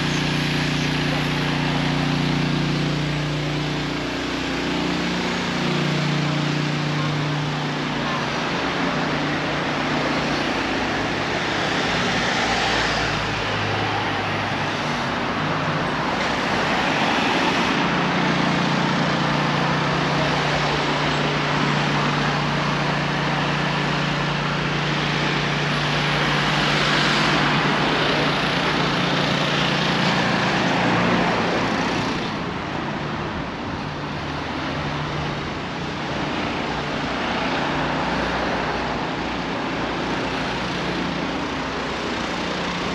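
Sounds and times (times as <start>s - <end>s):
cars passing: 0.0s - 42.9s.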